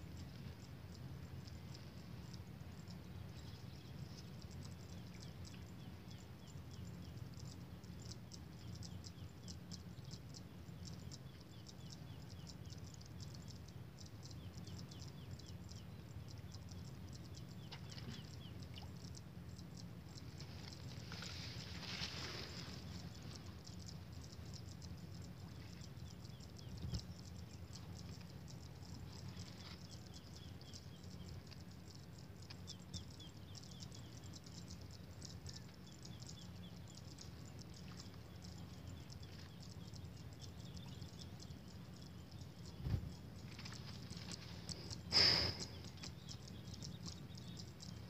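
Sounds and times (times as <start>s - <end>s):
insects ticking rapidly: 0.0s - 48.0s
small birds chirping: 0.0s - 48.0s
steady low rumble: 0.0s - 48.0s.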